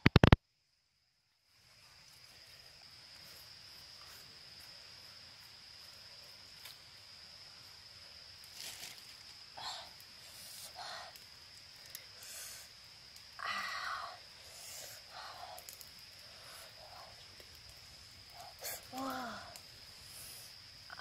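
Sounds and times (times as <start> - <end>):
insects droning: 0.0 - 21.0
outdoor background noise: 0.0 - 21.0.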